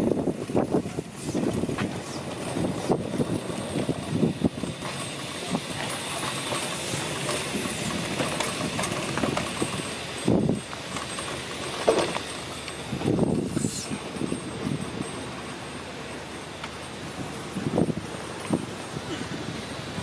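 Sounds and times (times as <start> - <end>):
steam locomotive puffing and hissing: 0.0 - 20.0.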